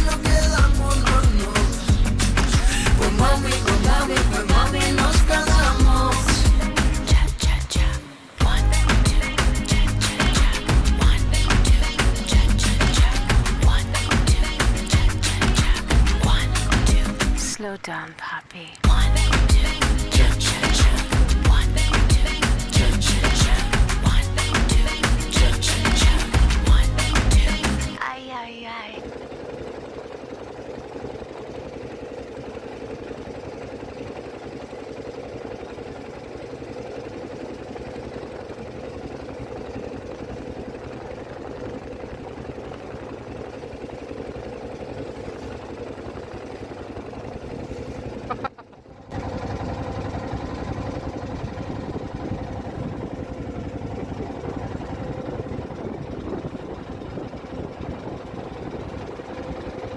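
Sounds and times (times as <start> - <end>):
small boat motor running: 0.0 - 59.9.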